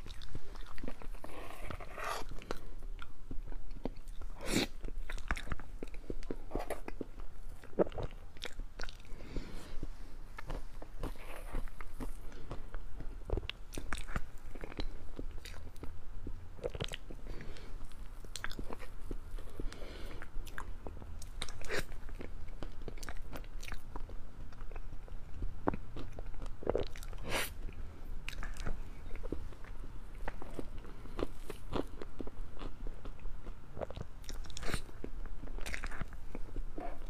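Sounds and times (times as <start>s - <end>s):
person chewing: 0.0s - 37.0s.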